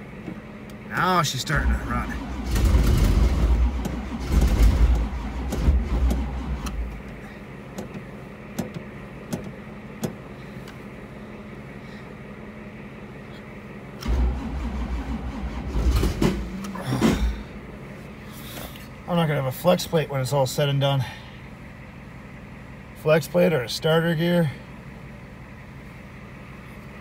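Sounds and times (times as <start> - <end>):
car engine running roughly: 0.0 - 27.0.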